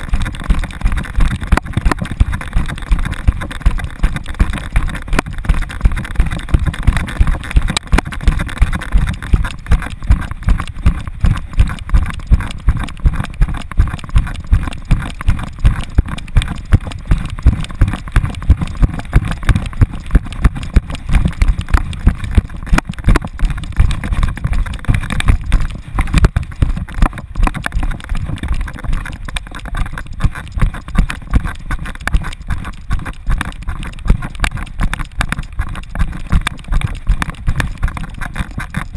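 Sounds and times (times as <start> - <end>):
rhythmic thuds of running dog: 0.0 - 38.9
steady rush of noise: 0.0 - 38.9.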